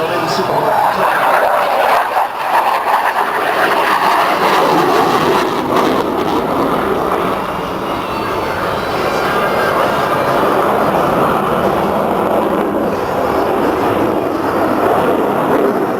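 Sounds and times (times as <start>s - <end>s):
propeller plane engine: 0.0s - 15.9s.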